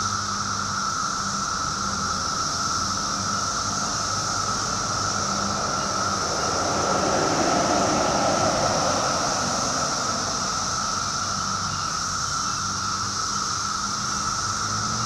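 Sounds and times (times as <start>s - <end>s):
cicadas droning chorus: 0.0s - 15.0s.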